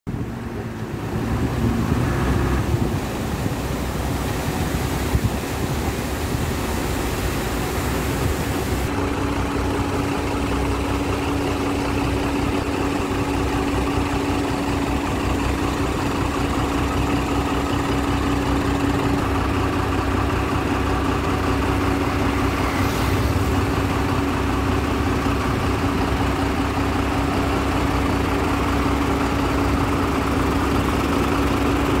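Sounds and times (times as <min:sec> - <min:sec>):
diesel truck engine idling: 0:00.1 - 0:32.0.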